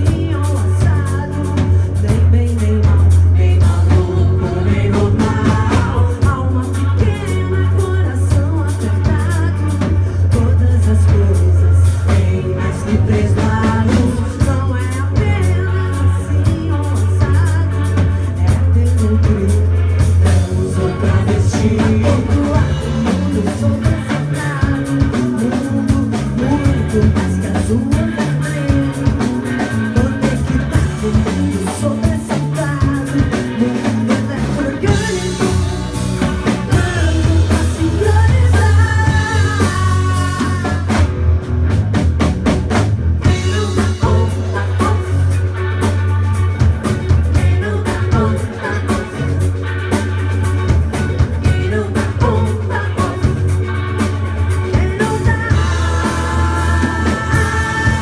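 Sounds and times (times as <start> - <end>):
voices singing: 0.0 - 41.0, 43.2 - 46.0, 46.8 - 50.2, 50.9 - 58.0
drum kit: 0.0 - 58.0
electric bass: 0.0 - 58.0
electric guitars: 0.0 - 58.0.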